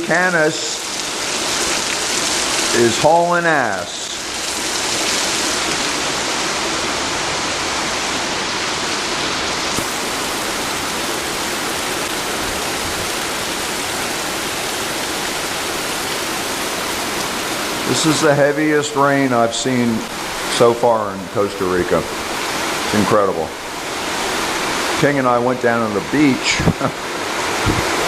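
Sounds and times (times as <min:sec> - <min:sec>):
flooded river rushing: 0:00.0 - 0:28.0
torrential rain: 0:00.0 - 0:28.0.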